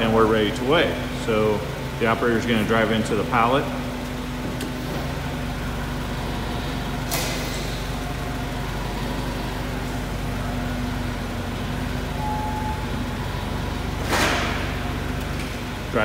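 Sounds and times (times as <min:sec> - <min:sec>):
forklift humming: 0:00.0 - 0:16.0.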